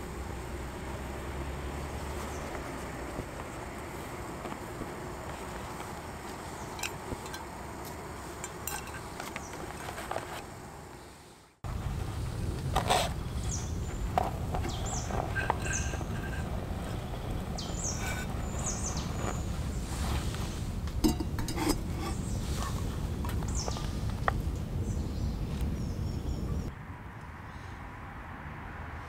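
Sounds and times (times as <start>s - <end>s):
birds chirping: 0.0s - 10.0s, 13.2s - 26.7s.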